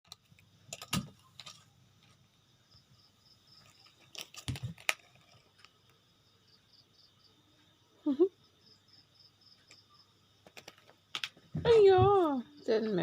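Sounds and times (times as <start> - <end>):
cricket chirping: 0.1 - 13.0.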